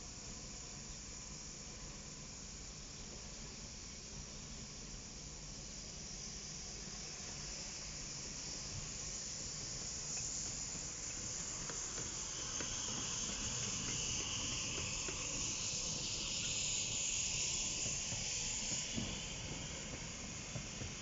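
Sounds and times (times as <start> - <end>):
low rumble of locomotive: 0.0 - 21.0
steam hissing: 0.0 - 21.0.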